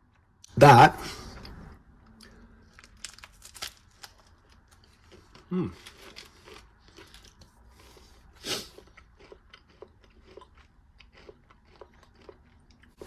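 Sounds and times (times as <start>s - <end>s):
chewing crunchy bar: 1.1s - 13.0s.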